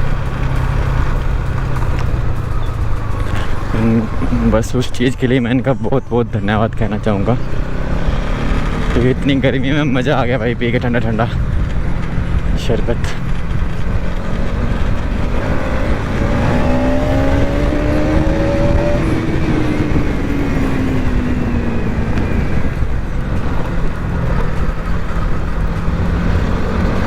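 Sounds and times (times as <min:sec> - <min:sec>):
traffic rumble: 0:00.0 - 0:27.0
vehicle engine passing by: 0:00.0 - 0:27.0.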